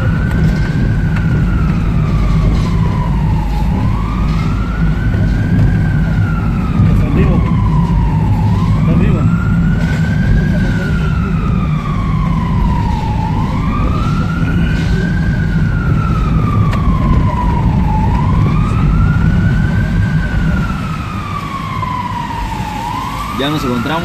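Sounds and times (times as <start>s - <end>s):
road and engine rumble: 0.0s - 24.0s
siren wailing: 0.0s - 24.0s.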